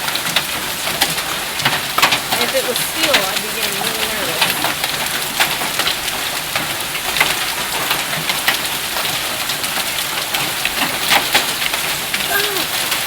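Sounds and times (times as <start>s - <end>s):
hailstones pelting down: 0.0s - 13.0s.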